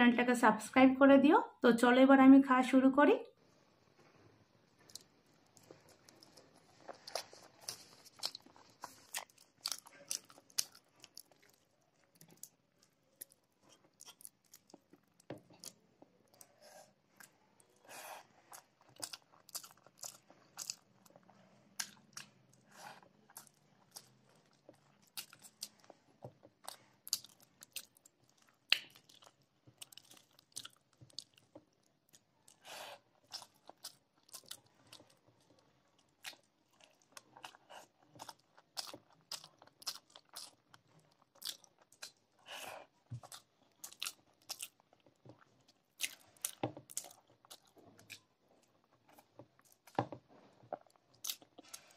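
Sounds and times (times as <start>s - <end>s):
chewing and mouth smacking: 4.7s - 16.5s, 17.2s - 32.6s, 33.2s - 50.0s, 50.6s - 51.9s.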